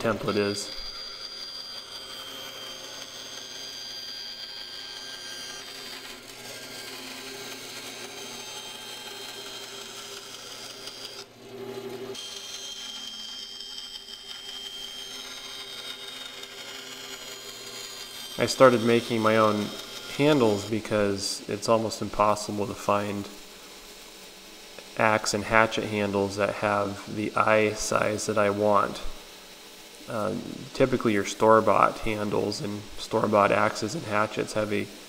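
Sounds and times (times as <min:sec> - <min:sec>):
bandsaw cutting wood: 0:00.0 - 0:35.0.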